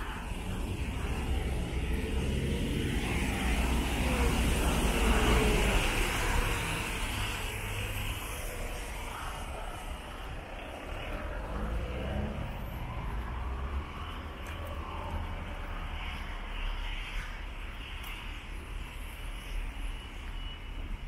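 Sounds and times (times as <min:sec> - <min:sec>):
low traffic rumble: 0:00.0 - 0:21.0
tyres hissing on wet road: 0:00.0 - 0:21.0.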